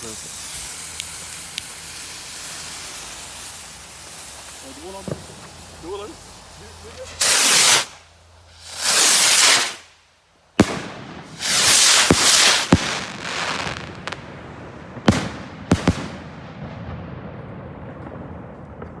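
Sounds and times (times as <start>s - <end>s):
fireworks bangs: 0.0s - 10.0s, 10.6s - 19.0s
fireworks hissing: 0.0s - 16.4s
fireworks crackle: 0.0s - 19.0s.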